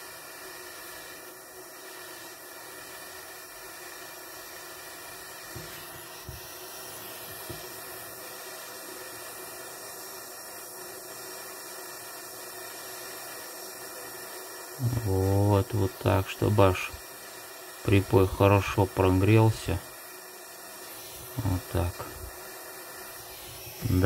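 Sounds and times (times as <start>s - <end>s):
gas torch hissing: 0.0s - 24.0s.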